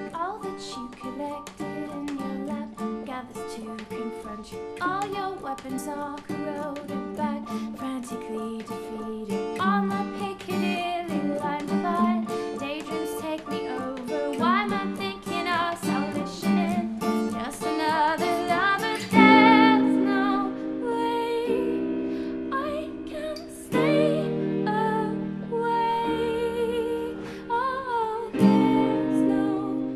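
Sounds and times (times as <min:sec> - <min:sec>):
person singing with vibrato: 0:00.0 - 0:29.9
plucked acoustic guitar: 0:00.0 - 0:29.9.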